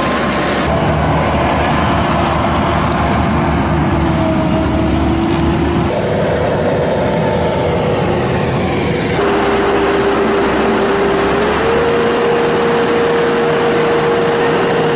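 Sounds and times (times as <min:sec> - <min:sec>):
harvesting machine engine hum: 0:00.0 - 0:14.9
machine whine: 0:00.0 - 0:14.9.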